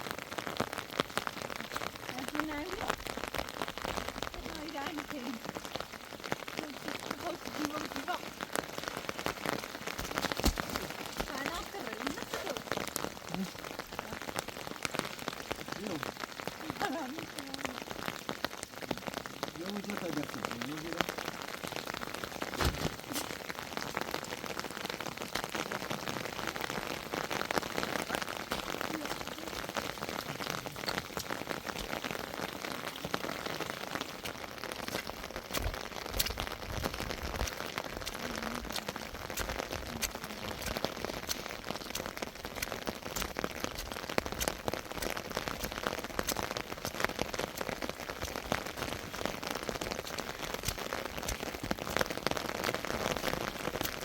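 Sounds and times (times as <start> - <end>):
rain falling: 0.0 - 54.0
sharp raindrop hits: 0.0 - 54.0.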